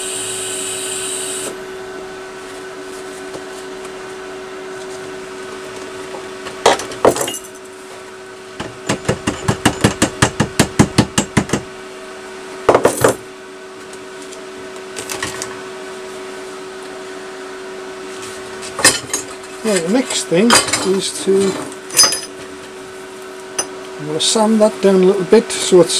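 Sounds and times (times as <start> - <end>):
steady mechanical hum: 0.0 - 25.9.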